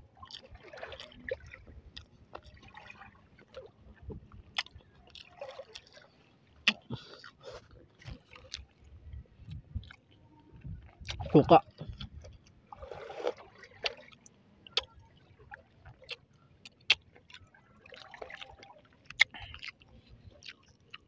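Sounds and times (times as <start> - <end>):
wet chewing and mouth clicks: 0.2 - 2.8, 3.5 - 12.6, 13.2 - 21.0.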